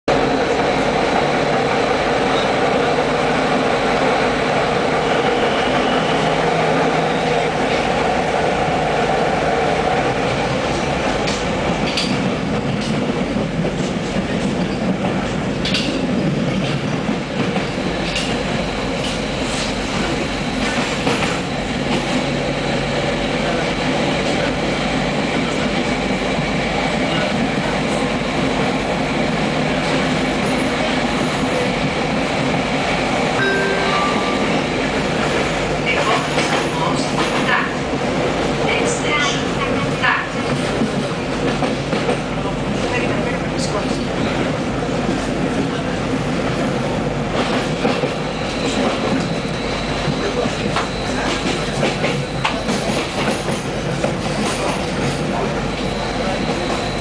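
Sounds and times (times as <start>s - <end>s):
train wheels rumbling on rail: 0.1s - 57.0s.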